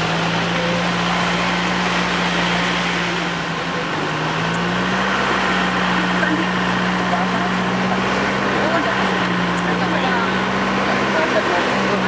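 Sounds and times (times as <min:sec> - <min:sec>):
engine drone in vehicle cabin: 0:00.0 - 0:12.0
road noise rush: 0:00.0 - 0:12.0.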